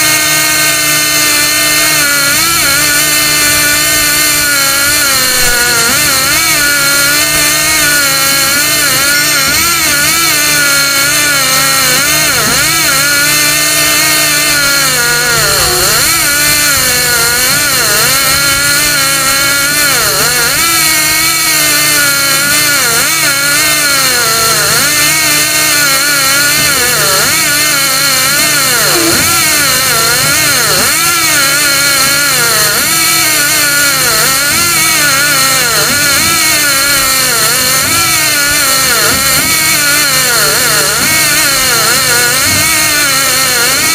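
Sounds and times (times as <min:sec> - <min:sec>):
air motor whining under load: 0:00.0 - 0:43.9.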